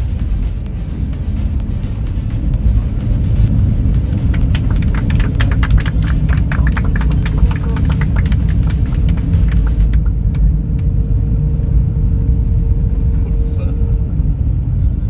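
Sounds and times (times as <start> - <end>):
dense rattling: 0.0 - 13.0
steady hum: 0.0 - 15.0
vehicle interior rumble: 0.0 - 15.0.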